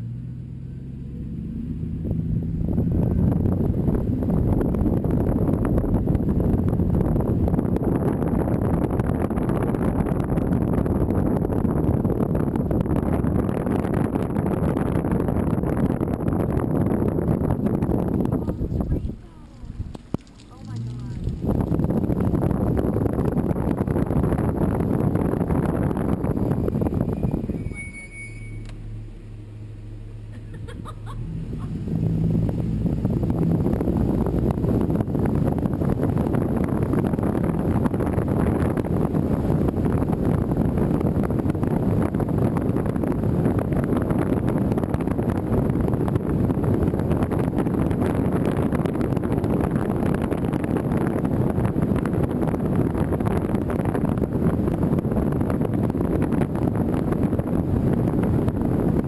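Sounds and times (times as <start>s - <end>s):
low steady hum: 0.0s - 59.0s
wind buffeting microphone: 1.7s - 27.8s, 31.1s - 59.0s.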